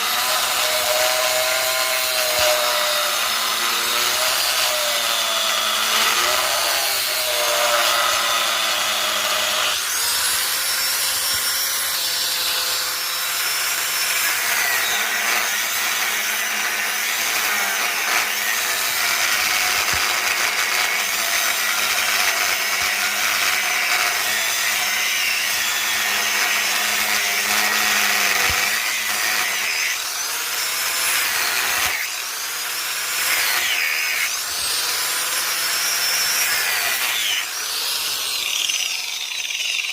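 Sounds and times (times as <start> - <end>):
electric grinder on steel: 0.0 - 39.9.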